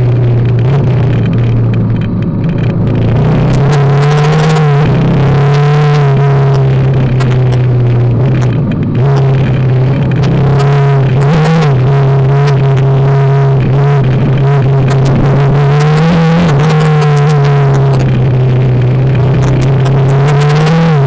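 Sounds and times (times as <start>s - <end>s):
motorcycle engine running: 0.0s - 21.0s
sharp clicks and knocks: 0.1s - 21.0s.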